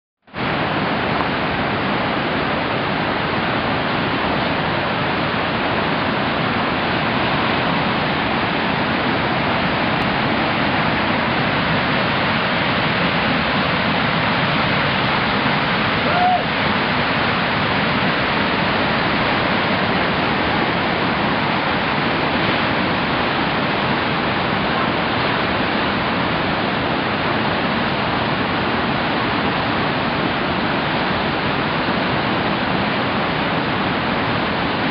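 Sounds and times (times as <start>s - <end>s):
whitewater rapids rushing: 0.3s - 34.9s.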